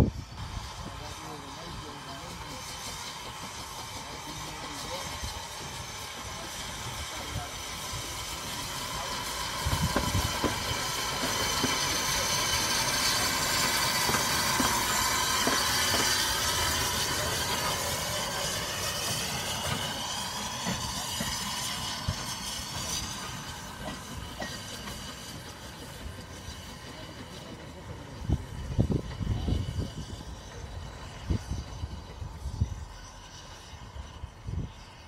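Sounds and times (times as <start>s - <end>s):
steam locomotive hissing steam: 0.0s - 35.0s.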